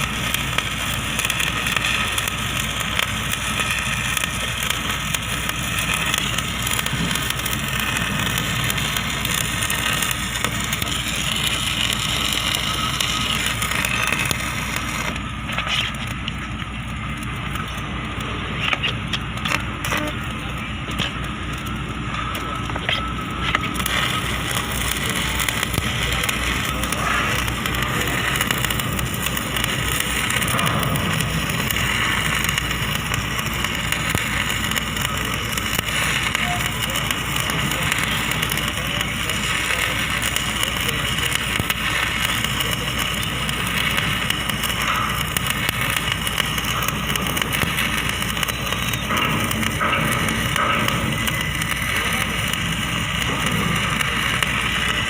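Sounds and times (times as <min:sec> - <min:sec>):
arc welding crackle and hiss: 0:00.0 - 0:55.0
constant low hum: 0:00.0 - 0:55.0.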